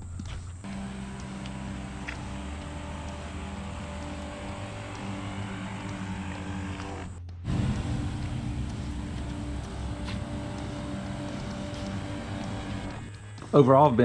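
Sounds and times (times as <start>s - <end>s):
low motor hum: 0.0s - 13.5s.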